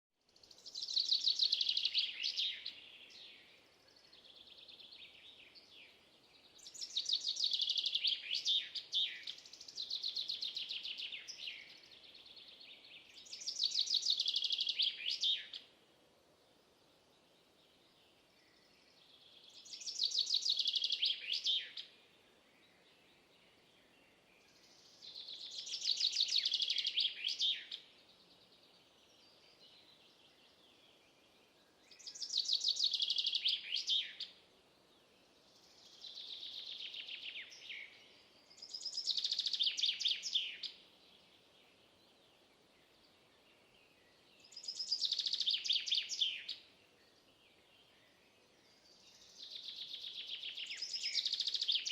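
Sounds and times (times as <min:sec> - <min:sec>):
faint background noise: 0:00.2 - 0:51.9.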